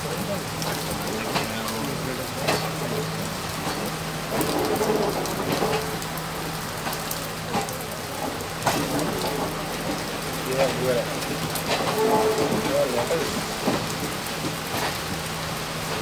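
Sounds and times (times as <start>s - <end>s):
rushing hiss of rain and water: 0.0s - 16.0s.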